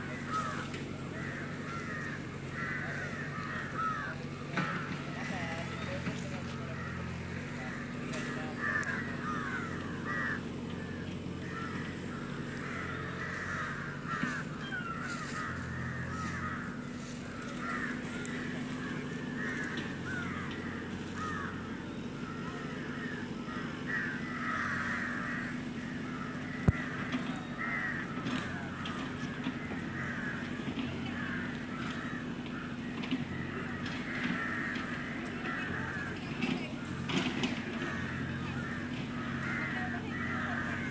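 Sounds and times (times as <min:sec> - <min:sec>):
crows cawing: 0:00.0 - 0:40.9.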